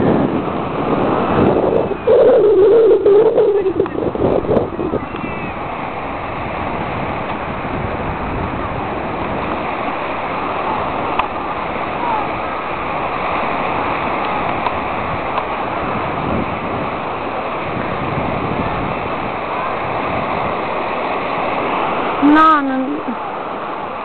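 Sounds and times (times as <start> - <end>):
surf on a beach: 0.0 - 24.0
wind blowing over microphone: 0.0 - 24.0.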